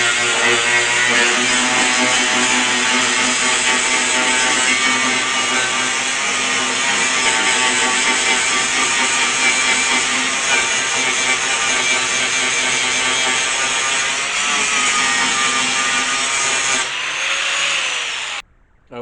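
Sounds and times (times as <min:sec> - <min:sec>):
power grinder grinding metal: 0:00.0 - 0:18.4.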